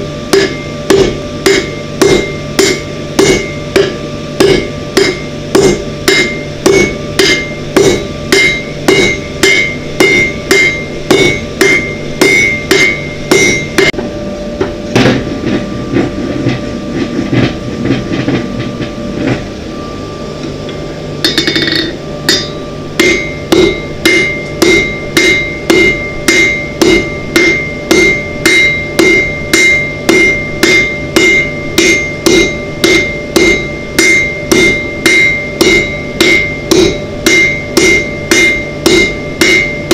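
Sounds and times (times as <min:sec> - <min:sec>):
hammer striking metal on anvil: 0:00.3 - 0:14.0, 0:21.2 - 0:39.9.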